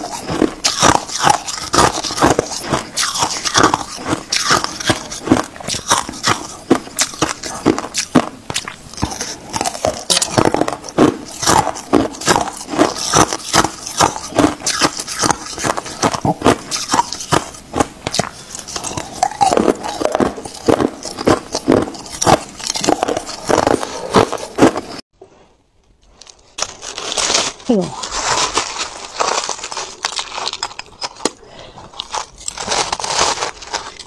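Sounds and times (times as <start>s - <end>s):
ice crunching between teeth: 0.0s - 25.0s, 26.6s - 34.0s.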